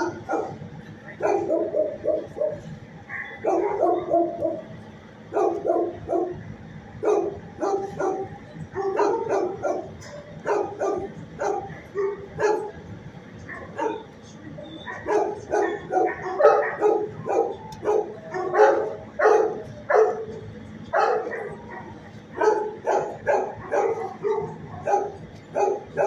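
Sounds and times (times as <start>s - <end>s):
dogs barking: 0.0s - 26.0s.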